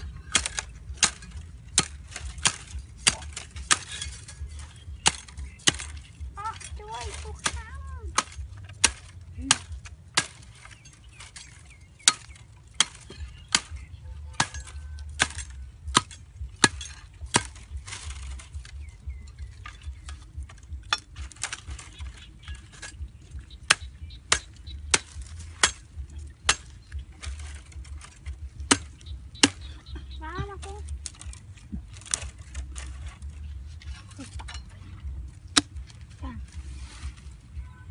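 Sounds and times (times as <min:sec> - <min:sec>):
digging tool chopping hard soil: 0:00.0 - 0:30.0, 0:34.4 - 0:36.1.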